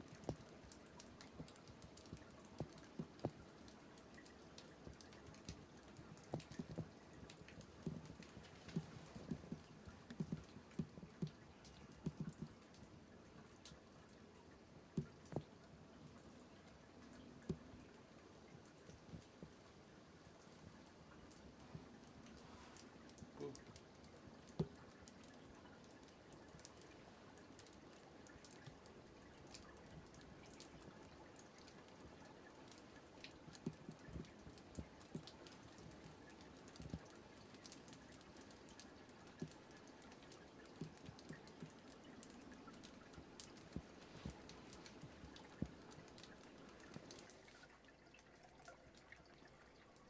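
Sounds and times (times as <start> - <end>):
faint clicks and taps: 0.0 - 47.7
low steady hiss: 0.0 - 50.0.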